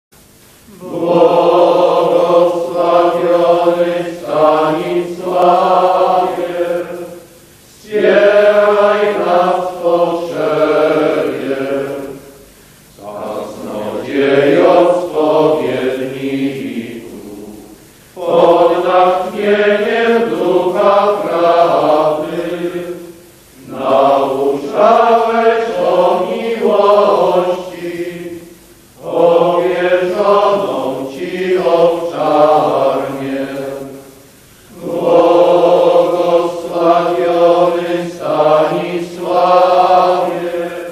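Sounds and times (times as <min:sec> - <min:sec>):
men's choir singing a hymn: 0:00.7 - 0:40.9.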